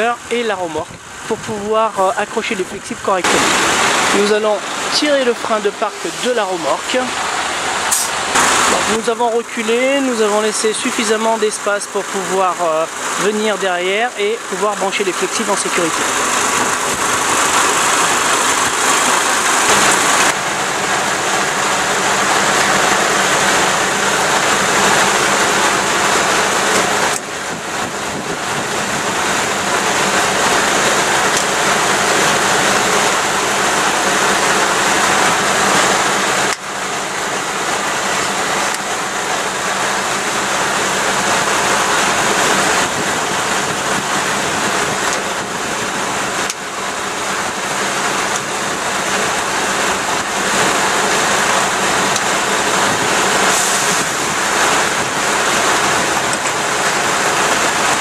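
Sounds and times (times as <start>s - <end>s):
truck engine idling with hiss: 0.0s - 58.0s.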